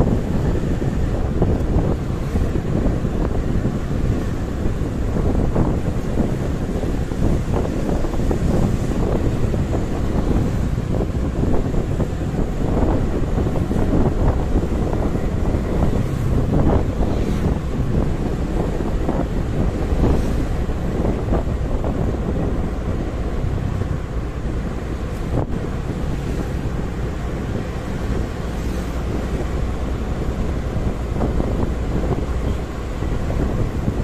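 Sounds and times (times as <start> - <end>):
road noise: 0.0 - 34.0
wind buffeting microphone: 0.0 - 34.0.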